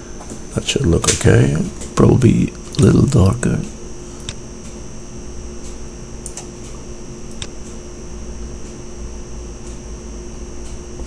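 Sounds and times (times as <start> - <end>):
background hum: 0.0 - 11.0
thin high whine: 0.0 - 11.0.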